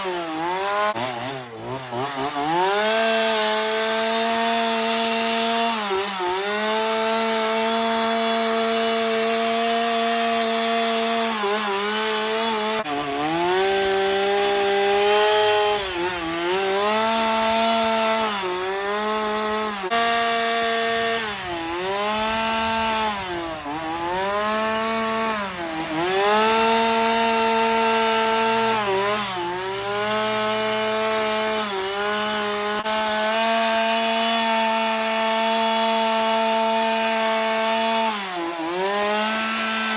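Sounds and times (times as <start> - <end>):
chainsaw cutting into log: 0.0 - 39.9.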